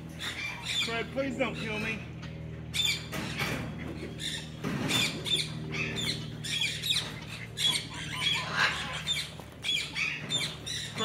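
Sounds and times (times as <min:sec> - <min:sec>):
steady low hum: 0:00.0 - 0:11.0
cockatoo squawking harshly: 0:00.1 - 0:01.9, 0:02.7 - 0:11.0.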